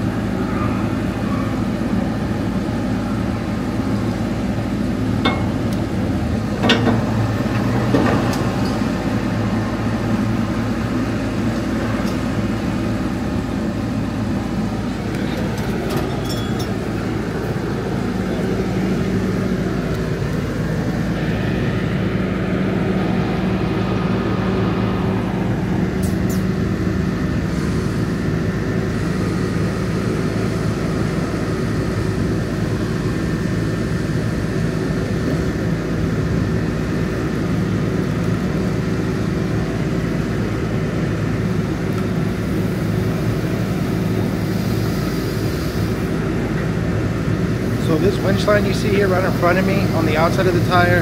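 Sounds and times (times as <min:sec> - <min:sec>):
heavy truck engine running: 0:00.0 - 0:51.0.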